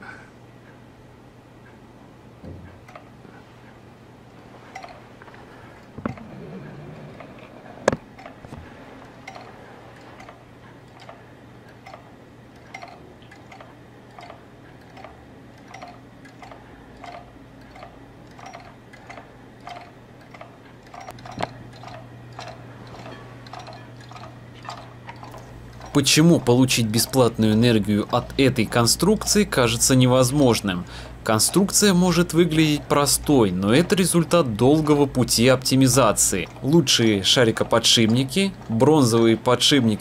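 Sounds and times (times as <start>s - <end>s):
magnet motor ticking: 7.9s - 40.0s.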